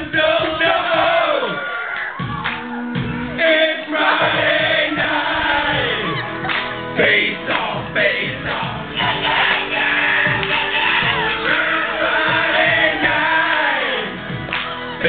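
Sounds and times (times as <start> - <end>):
group of men singing: 0.0 - 1.7, 3.4 - 14.3.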